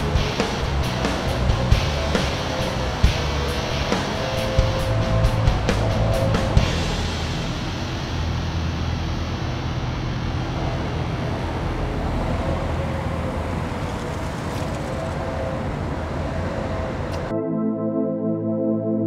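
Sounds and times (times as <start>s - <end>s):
car engine hum: 0.0s - 17.3s
road and tyre noise: 0.0s - 17.3s.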